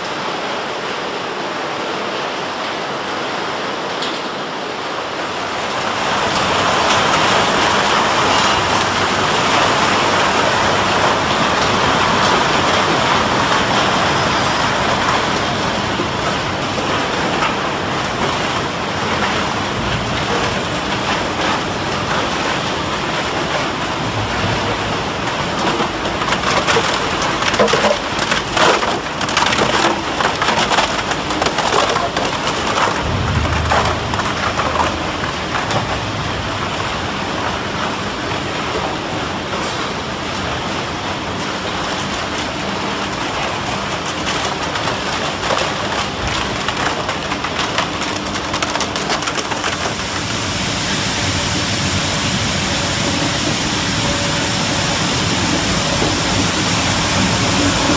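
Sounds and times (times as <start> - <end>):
machine and water noise: 0.0 - 57.9.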